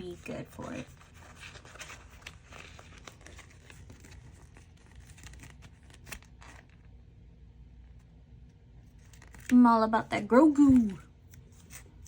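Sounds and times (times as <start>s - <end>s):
paper sticker sheet crinkling: 0.0s - 7.1s, 7.8s - 12.0s.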